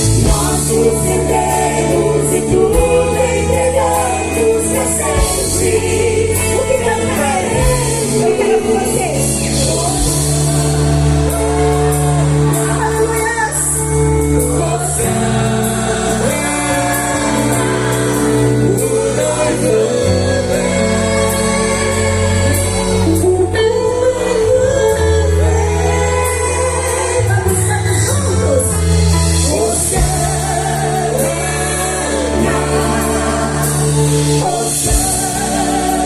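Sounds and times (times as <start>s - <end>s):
low bass notes: 0.0s - 36.0s
voices singing: 0.0s - 36.0s.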